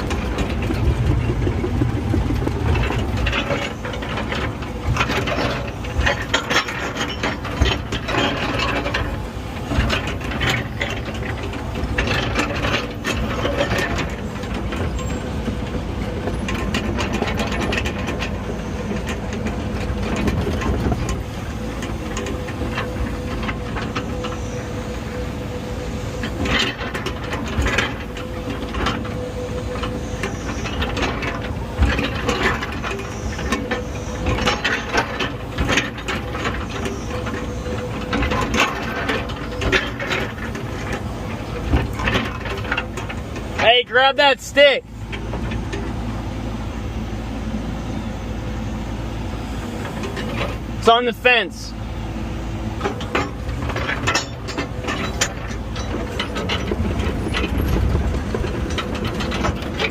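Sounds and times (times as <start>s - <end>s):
metallic clanking and knocking: 0.0s - 25.2s, 26.0s - 46.0s, 52.7s - 59.9s
diesel engine running: 0.0s - 59.9s.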